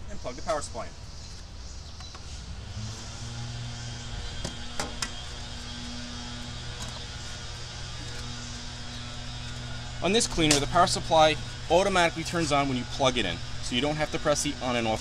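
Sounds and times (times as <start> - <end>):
power supply humming: 2.0 - 15.0.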